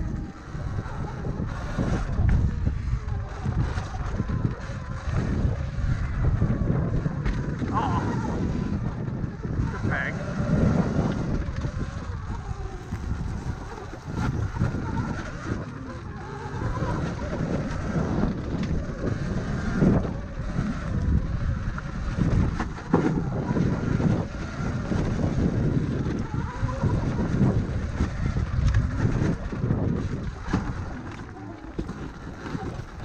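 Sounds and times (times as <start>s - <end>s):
tyres rumbling on dirt: 0.0s - 33.0s
wind buffeting microphone: 0.0s - 33.0s.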